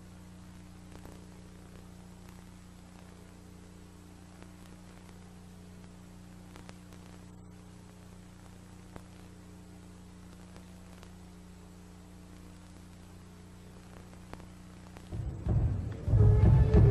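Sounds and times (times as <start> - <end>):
electrical mains hum: 0.0 - 16.9
faint hiss: 0.0 - 16.9.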